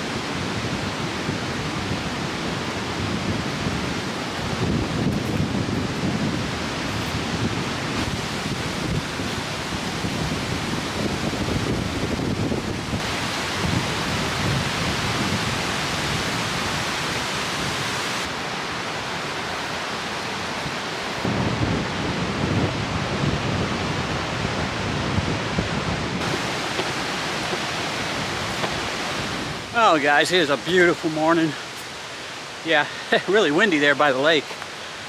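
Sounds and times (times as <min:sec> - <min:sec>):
wind buffeting microphone: 0:00.0 - 0:18.3, 0:20.4 - 0:31.8
steady rushing hiss: 0:00.0 - 0:35.0.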